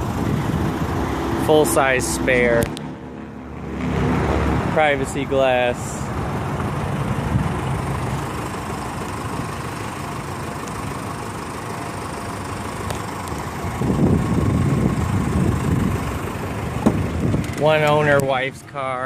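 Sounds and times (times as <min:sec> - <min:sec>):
engine idling: 0:00.0 - 0:03.6, 0:04.6 - 0:19.0
rough rumble: 0:00.0 - 0:18.7.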